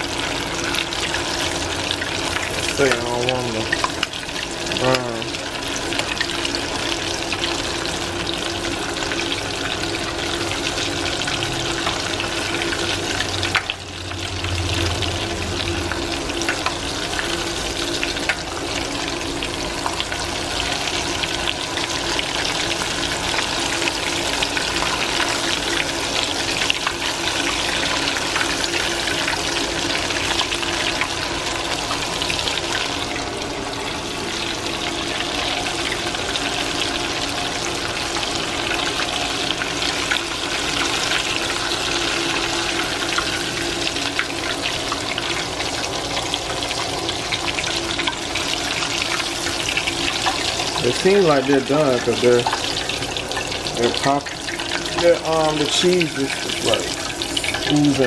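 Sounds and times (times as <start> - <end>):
oil crackling and sizzling: 0.0 - 58.0.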